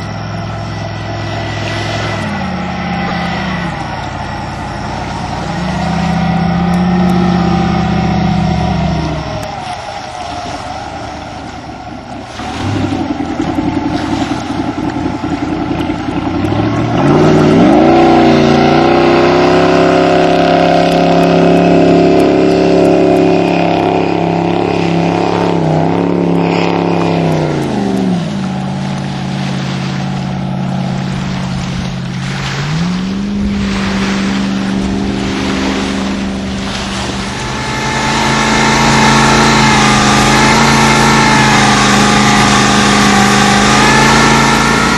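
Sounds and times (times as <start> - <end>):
boat engine revving: 0.0 - 44.9.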